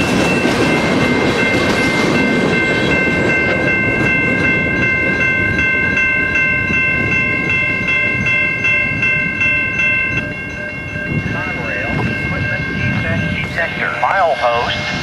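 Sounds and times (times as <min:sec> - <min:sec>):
freight train cars rumbling: 0:00.0 - 0:15.0
railroad crossing warning bell: 0:00.0 - 0:15.0.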